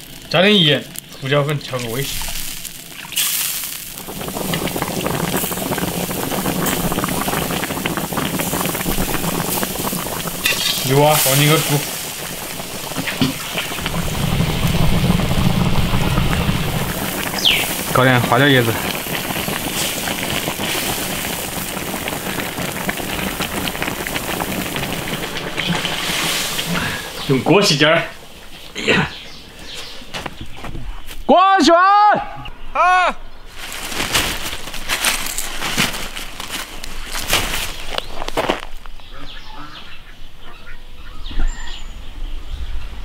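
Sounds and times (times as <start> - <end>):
broth boiling with small pops: 0.0 - 30.6, 33.5 - 39.1.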